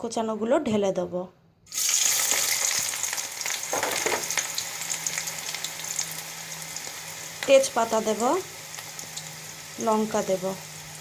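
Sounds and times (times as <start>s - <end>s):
onions sizzling in oil: 1.7s - 11.0s.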